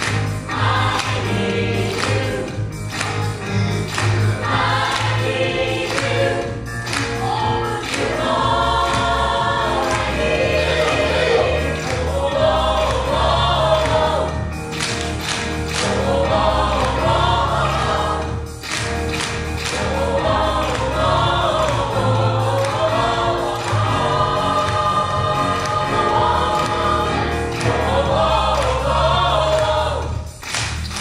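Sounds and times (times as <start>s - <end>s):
gospel choir singing: 0.0s - 30.7s
steady bass line: 0.0s - 31.0s.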